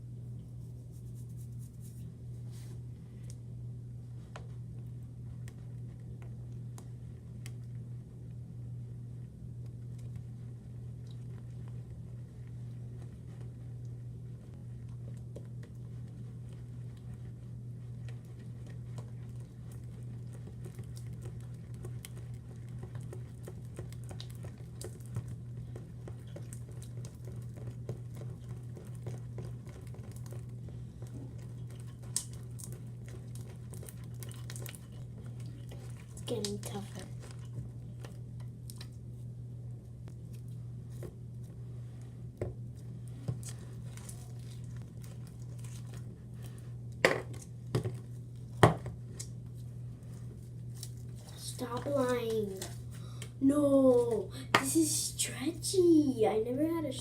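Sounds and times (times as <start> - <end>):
steady low hum: 0.0 - 57.0
slime squelching by hand: 9.2 - 57.0.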